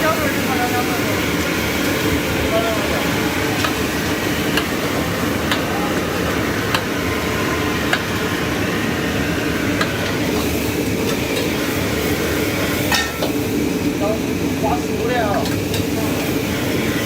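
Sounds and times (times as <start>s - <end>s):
steady mechanical rumble: 0.0s - 17.0s.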